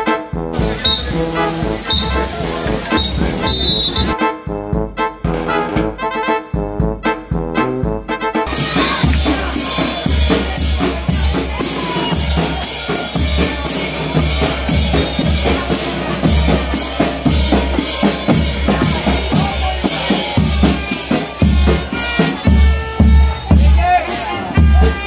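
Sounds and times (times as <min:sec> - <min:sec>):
snare drum: 0:00.5 - 0:04.3, 0:08.4 - 0:25.0.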